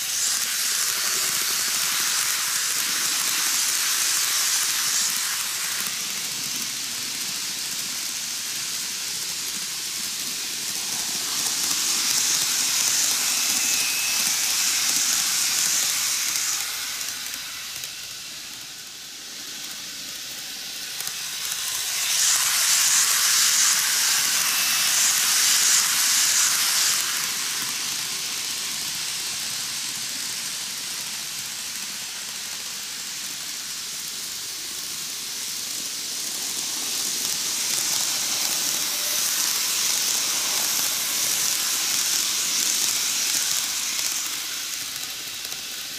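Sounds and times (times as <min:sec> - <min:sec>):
model trains whirring on track: 0:00.0 - 0:45.9.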